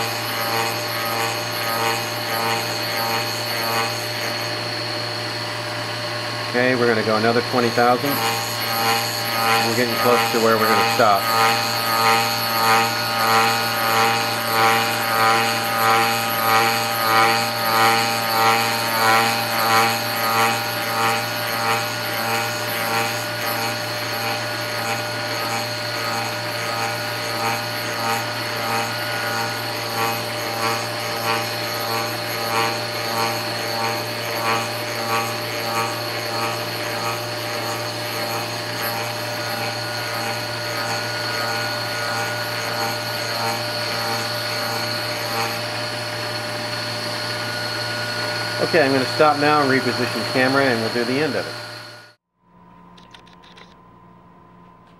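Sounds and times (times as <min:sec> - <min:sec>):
rhythmic motor pulse: 0:00.0 - 0:04.8, 0:06.5 - 0:52.2
lathe motor whine and hum: 0:00.0 - 0:52.2.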